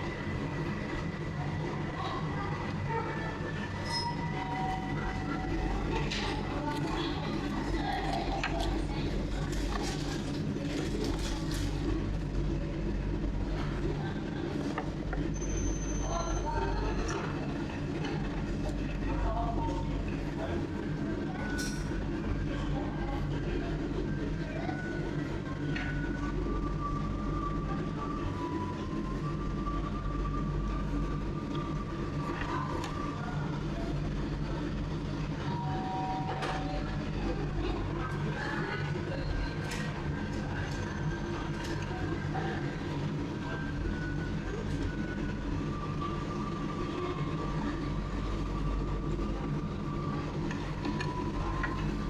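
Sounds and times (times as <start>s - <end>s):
conveyor belt mechanical hum: 0.0s - 52.0s.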